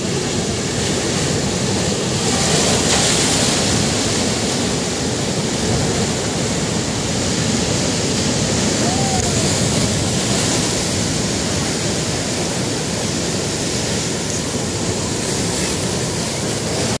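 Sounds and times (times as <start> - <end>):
surf breaking over rocks: 0.0 - 17.0.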